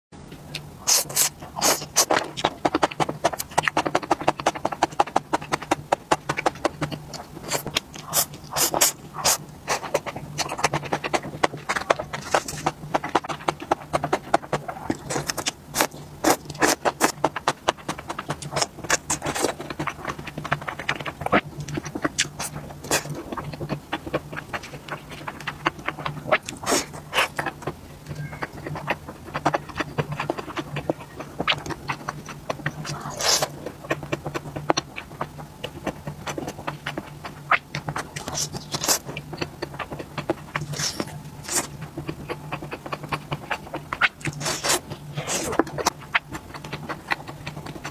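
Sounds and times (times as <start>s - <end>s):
steady low hum: 0.2s - 47.9s
wet chewing and slurping: 0.5s - 47.9s.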